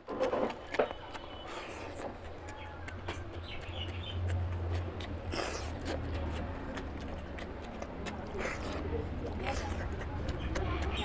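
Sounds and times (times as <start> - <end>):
chewing and lip smacks: 0.0 - 11.0.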